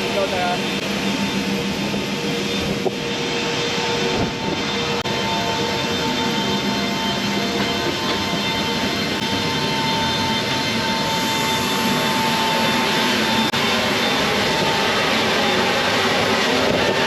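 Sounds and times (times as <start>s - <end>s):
jet engines running loud: 0.0s - 17.0s.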